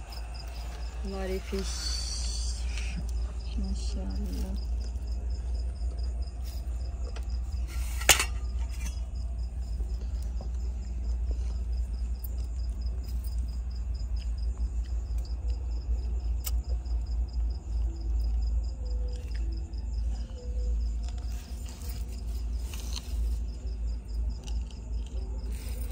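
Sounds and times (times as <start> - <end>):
cricket chirping: 0.0 - 25.9
low hum: 0.0 - 25.9.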